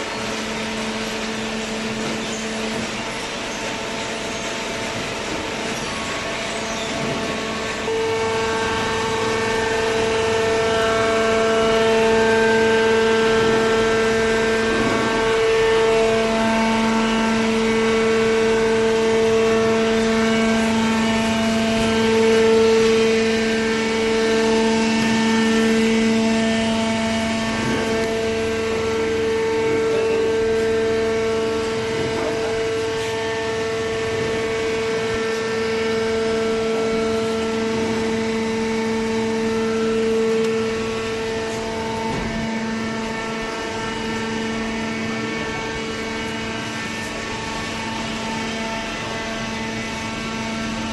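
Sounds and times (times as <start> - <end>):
hydraulic press motor whine: 0.0 - 50.9.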